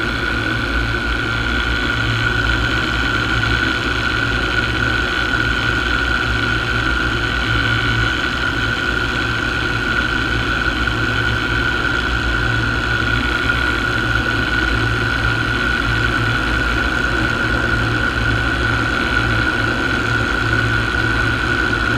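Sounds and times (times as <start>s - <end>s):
paramotor engine droning: 0.0s - 21.9s.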